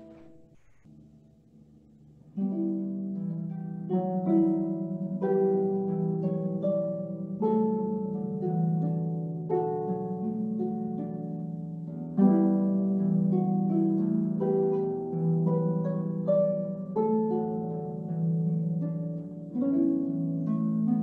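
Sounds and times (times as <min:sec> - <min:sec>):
harp playing: 0:02.4 - 0:21.0.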